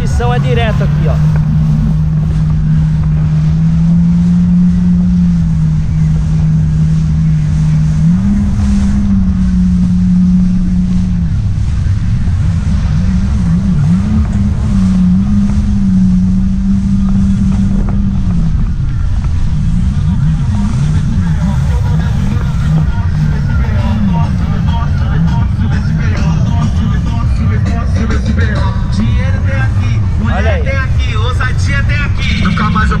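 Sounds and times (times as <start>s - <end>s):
jet ski engine running: 0.0s - 33.0s
rush of wind and water: 0.0s - 33.0s.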